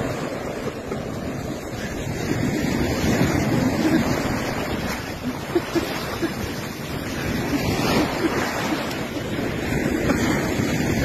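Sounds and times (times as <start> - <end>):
sea waves breaking: 0.0 - 11.0
surf washing up a beach: 0.0 - 11.0
wind rumbling on microphone: 0.0 - 11.0.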